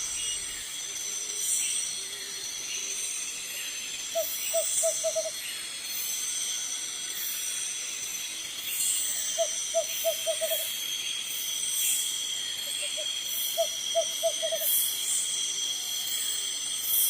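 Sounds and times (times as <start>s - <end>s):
insects trilling and buzzing: 0.0s - 17.0s.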